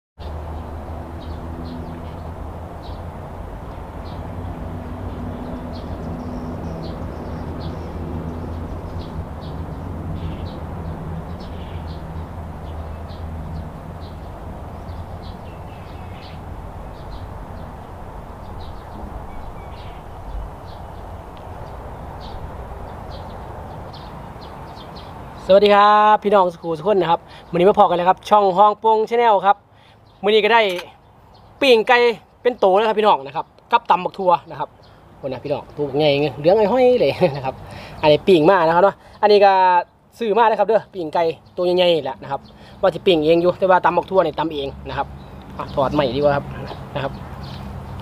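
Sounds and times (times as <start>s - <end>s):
small birds chirping: 0.2s - 48.0s.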